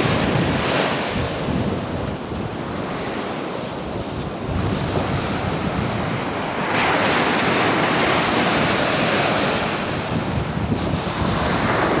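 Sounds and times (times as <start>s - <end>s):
surf on sandy beach: 0.0s - 12.0s
wind buffeting microphone: 0.0s - 12.0s.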